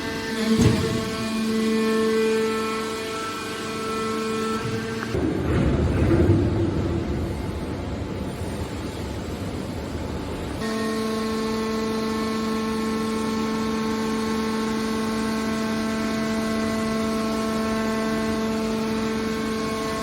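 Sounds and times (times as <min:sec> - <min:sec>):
hydraulic press machine hum: 0:00.0 - 0:20.0.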